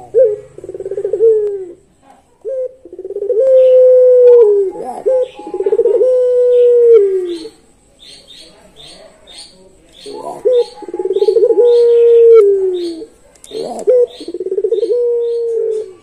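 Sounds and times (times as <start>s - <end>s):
dove cooing: 0.0s - 7.7s, 10.0s - 16.0s.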